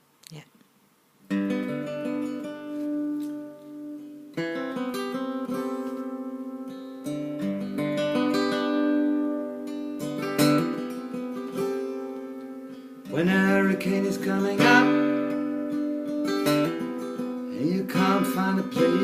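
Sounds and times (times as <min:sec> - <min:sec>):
acoustic guitar strummed chords: 0:01.2 - 0:19.0.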